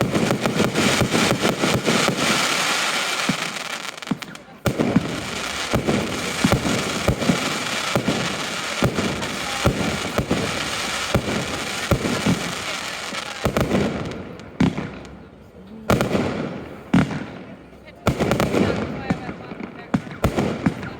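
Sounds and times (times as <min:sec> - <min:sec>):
firework bangs: 0:00.0 - 0:20.9
firework crackling: 0:00.0 - 0:20.9.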